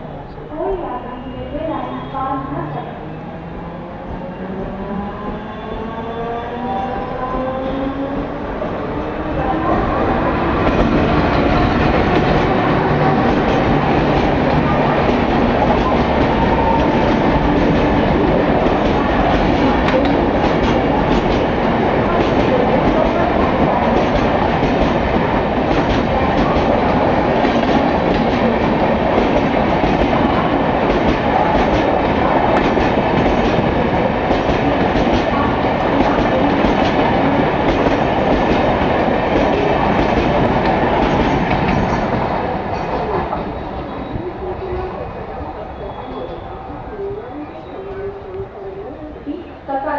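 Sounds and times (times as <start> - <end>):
train rumbling past at speed: 0.0 - 49.9.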